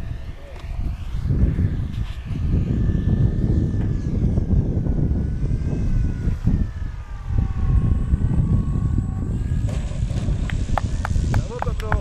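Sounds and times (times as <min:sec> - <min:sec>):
model airplane engine: 0:00.0 - 0:12.0
wind buffeting on microphone: 0:00.0 - 0:12.0.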